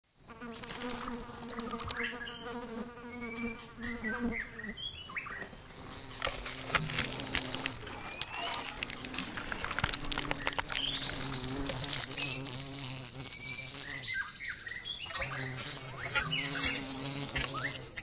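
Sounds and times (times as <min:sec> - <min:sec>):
wasp wings buzzing: 0:00.2 - 0:04.7, 0:05.3 - 0:14.2, 0:15.0 - 0:18.0.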